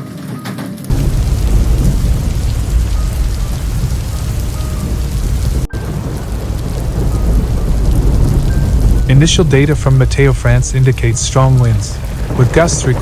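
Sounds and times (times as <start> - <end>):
heavy rain: 0.8 - 13.0
thunder rumbling: 0.8 - 13.0.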